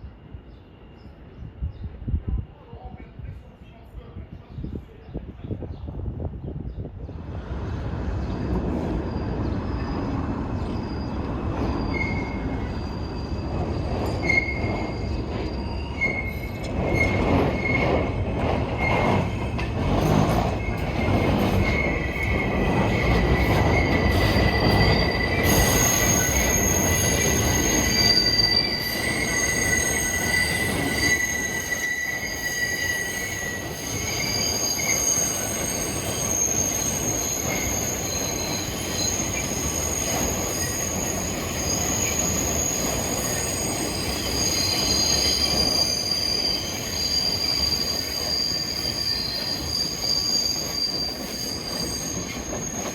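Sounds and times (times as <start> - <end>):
train wheels squealing: 0.0 - 2.0, 7.1 - 52.9
subway train rumbling on rails: 0.0 - 52.9.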